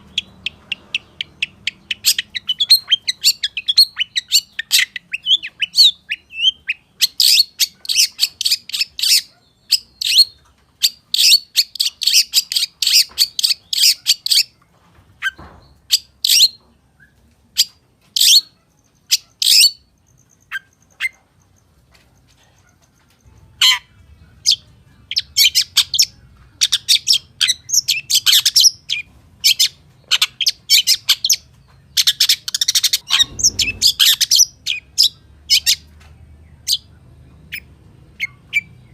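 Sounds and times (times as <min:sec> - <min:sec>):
bird singing high chirps: 0:00.0 - 0:14.5, 0:15.6 - 0:21.2, 0:23.6 - 0:38.9.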